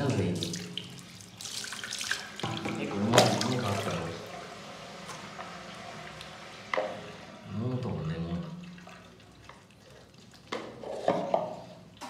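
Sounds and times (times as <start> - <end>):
water splashing into washbasin: 0.0 - 12.0.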